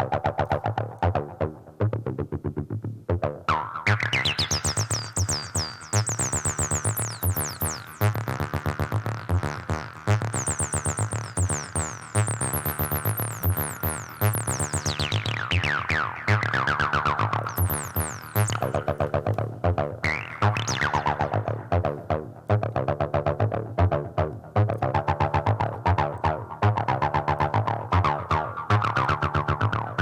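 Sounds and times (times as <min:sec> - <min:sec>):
distorted acid bassline: 0:00.0 - 0:30.0.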